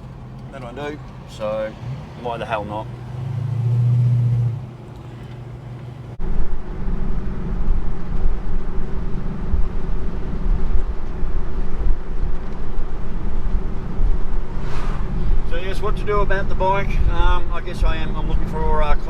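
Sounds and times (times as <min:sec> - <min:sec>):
car engine drone: 0:00.0 - 0:19.0
road rumble: 0:00.0 - 0:19.0.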